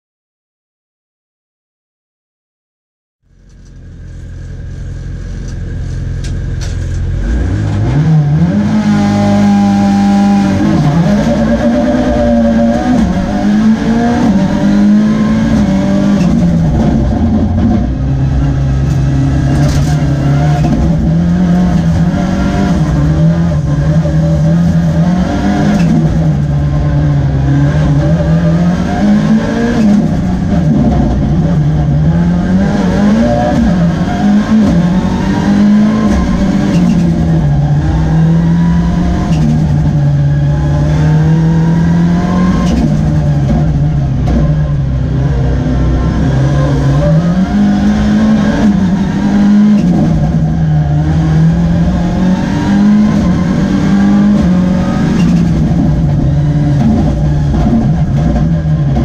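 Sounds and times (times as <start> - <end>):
car engine revving: 3.3 - 59.0.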